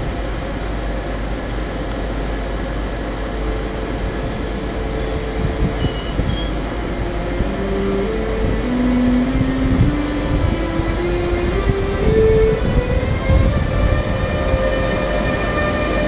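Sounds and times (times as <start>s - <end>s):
electric locomotive tones: 0.0s - 16.0s
steady rumble: 0.0s - 16.0s.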